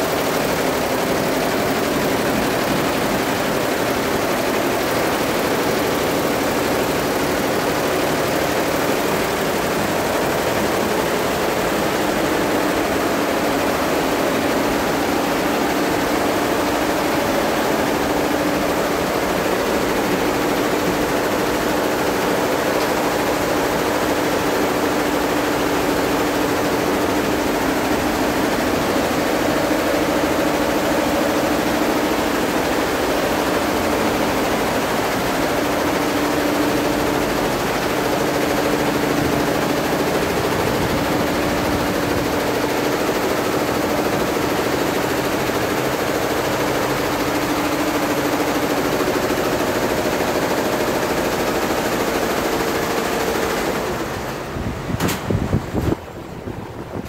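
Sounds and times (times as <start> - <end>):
embroidery machine whirring: 0.0 - 57.0.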